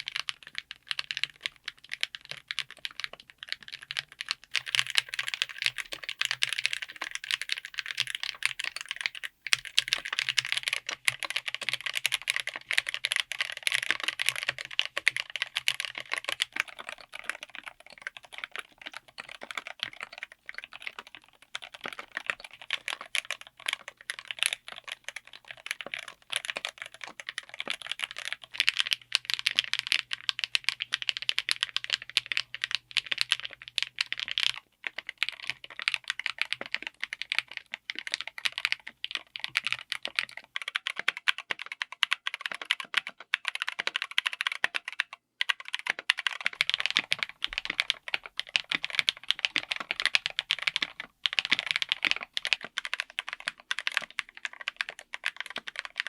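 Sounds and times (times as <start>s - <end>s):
fast typing on mechanical keyboard: 0.0s - 56.0s.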